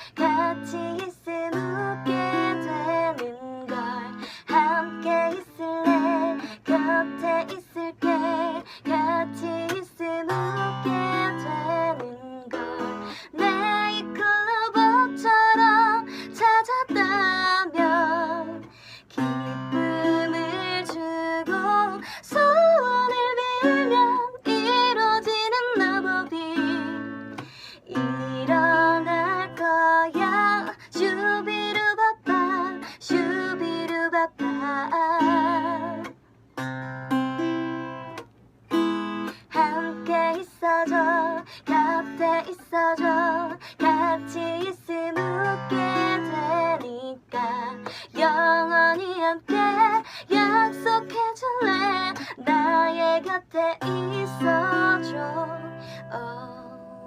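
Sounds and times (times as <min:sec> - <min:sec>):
person singing with vibrato: 0:00.0 - 0:36.1, 0:38.7 - 0:57.0
ukulele strumming: 0:00.0 - 0:57.0.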